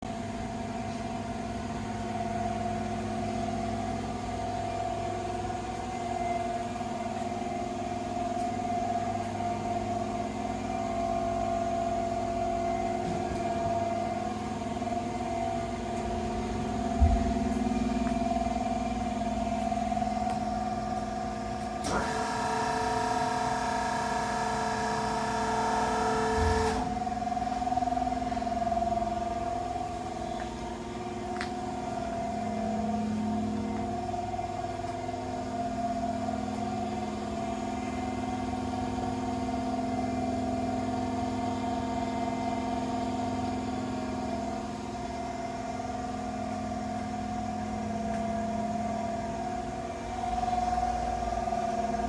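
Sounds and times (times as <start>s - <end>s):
grinder motor hum and whine: 0.1s - 52.0s.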